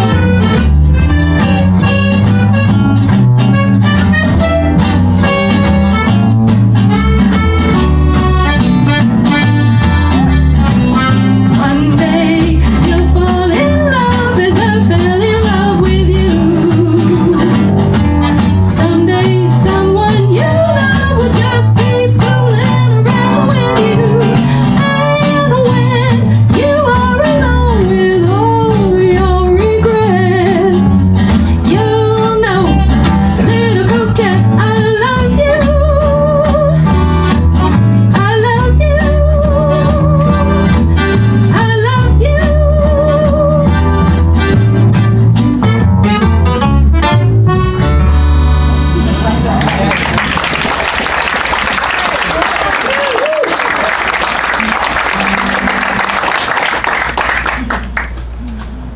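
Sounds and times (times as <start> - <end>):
mandolin: 0.0 - 49.6
accordion: 0.0 - 50.0
acoustic guitar: 0.0 - 58.9
acoustic swing band: 0.0 - 58.9
upright bass: 0.0 - 58.9.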